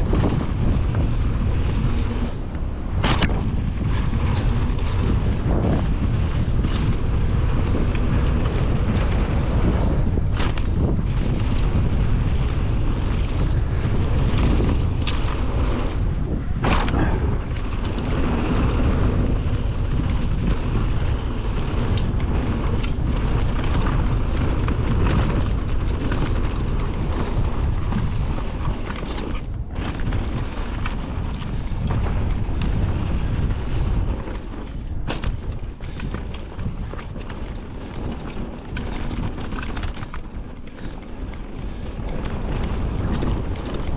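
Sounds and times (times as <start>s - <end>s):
bike knocking over bumps: 0.0s - 43.9s
tyre rumble: 0.0s - 43.9s
wind buffeting microphone: 0.0s - 43.9s.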